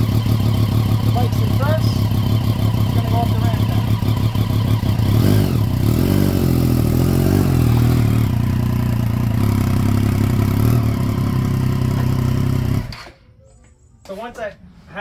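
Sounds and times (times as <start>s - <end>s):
motorcycle engine at low revs: 0.0s - 13.1s.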